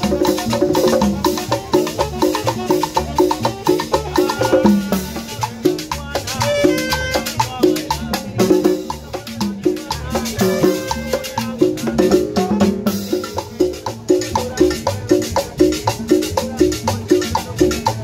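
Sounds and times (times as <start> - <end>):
congas and timbales beat: 0.0 - 18.0
latin dance band playing: 0.0 - 18.0
upright bass line: 0.0 - 18.0.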